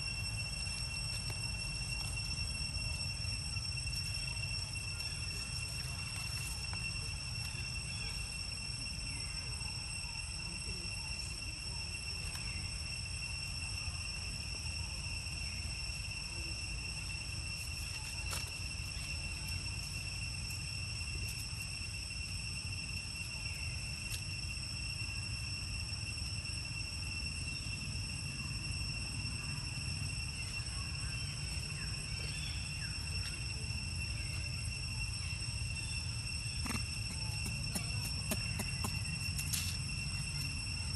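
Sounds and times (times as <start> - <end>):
faint chirps: 0.0 - 40.9
high-pitched insect drone: 0.0 - 40.9.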